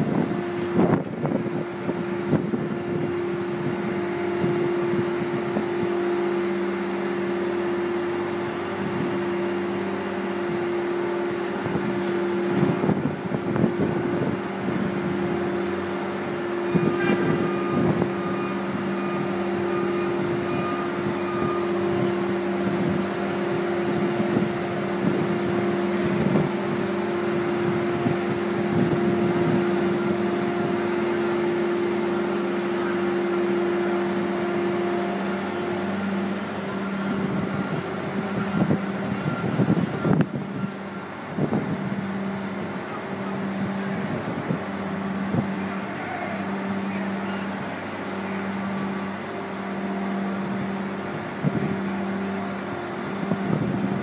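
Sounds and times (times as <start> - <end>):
crane machinery humming: 0.0 - 54.0
thin high whine: 0.0 - 54.0.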